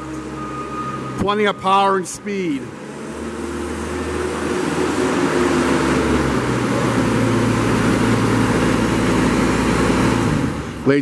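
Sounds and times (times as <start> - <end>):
forklift diesel engine running: 0.0 - 11.0.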